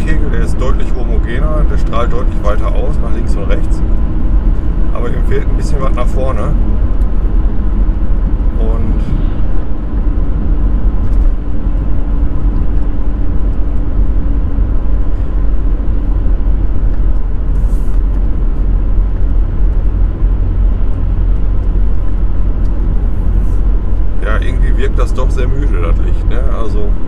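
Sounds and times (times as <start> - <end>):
faint hum: 0.0 - 27.0
van engine and road rumble: 0.0 - 27.0.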